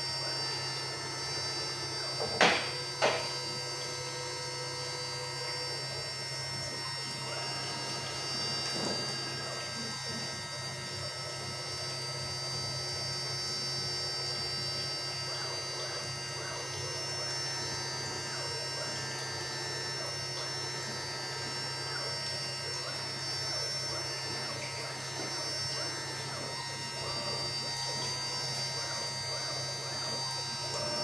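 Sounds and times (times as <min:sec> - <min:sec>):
router spindle hum and whine: 0:00.0 - 0:31.0
stepper motor tones: 0:00.0 - 0:31.0.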